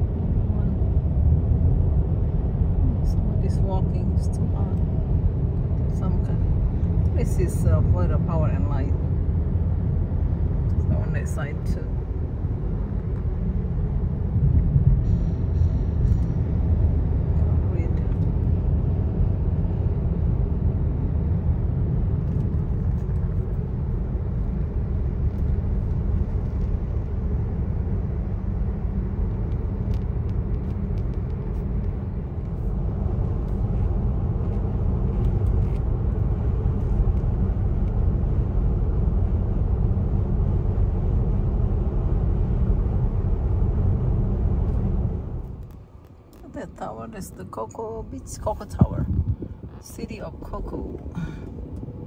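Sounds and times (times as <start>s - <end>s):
car road and engine rumble: 0.0s - 52.0s.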